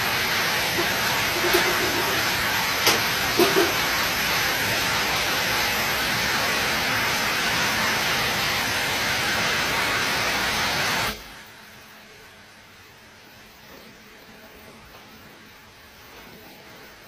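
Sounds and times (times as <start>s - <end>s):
machine running with steady hiss: 0.0s - 17.0s.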